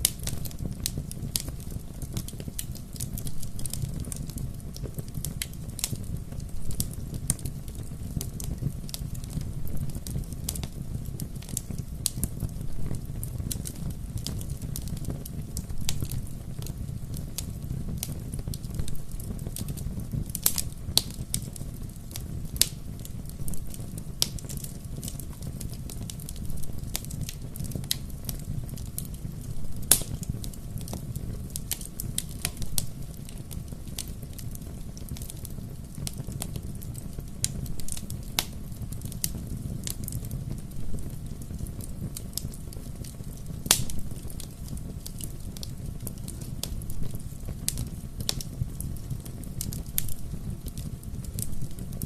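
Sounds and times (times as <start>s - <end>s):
bonfire flames rumbling: 0.0s - 52.0s
burning wood crackling and popping: 0.0s - 52.0s.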